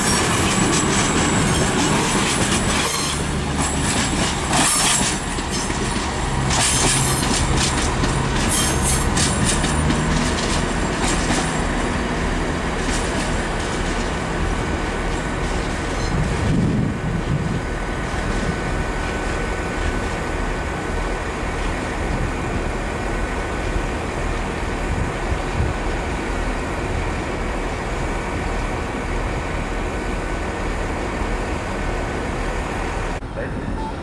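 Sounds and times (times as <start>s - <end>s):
train rumble: 0.0s - 34.0s.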